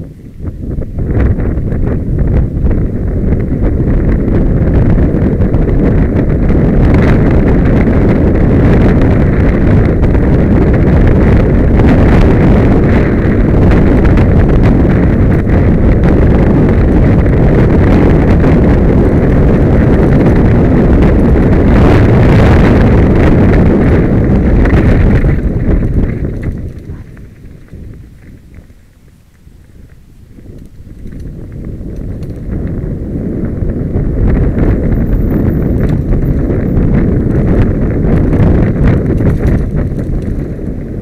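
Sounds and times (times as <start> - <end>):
wind buffeting microphone: 0.0 - 41.0
bike rattling over dirt trail: 0.1 - 41.0.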